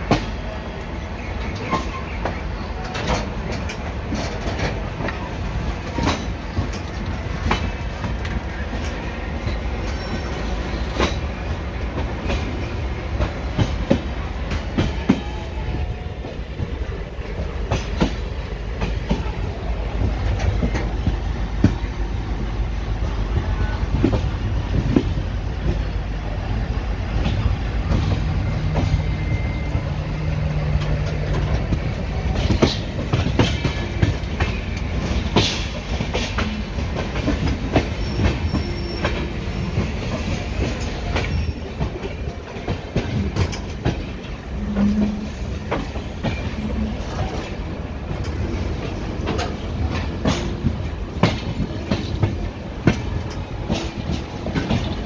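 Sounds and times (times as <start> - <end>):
steady train rumble: 0.0 - 55.0
train wheels clattering over rail joints: 1.4 - 22.6, 27.0 - 55.0.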